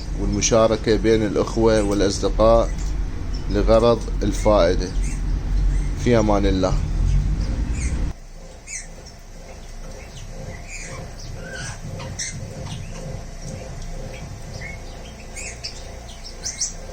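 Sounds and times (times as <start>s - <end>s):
birds chirping and squawking: 0.0s - 16.9s
steady low hum: 0.0s - 16.9s.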